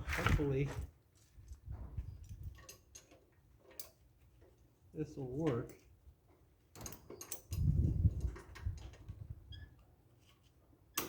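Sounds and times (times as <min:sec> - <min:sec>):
rumble of handling metal parts: 0:00.0 - 0:11.0.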